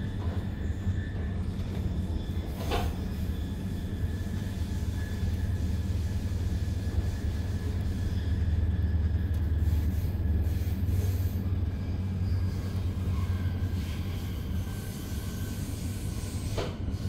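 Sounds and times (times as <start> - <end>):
train rumble inside coach: 0.0 - 17.0.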